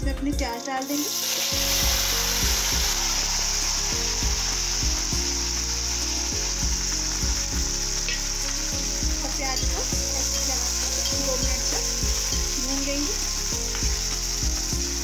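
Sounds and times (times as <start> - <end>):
onions sizzling in oil: 0.4 - 15.0.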